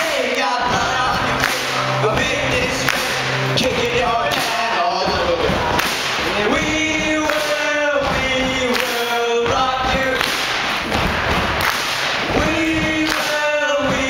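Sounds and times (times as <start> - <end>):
men singing into microphones: 0.0 - 10.3, 12.2 - 14.0
drums: 0.0 - 14.0
live rock band: 0.0 - 14.0.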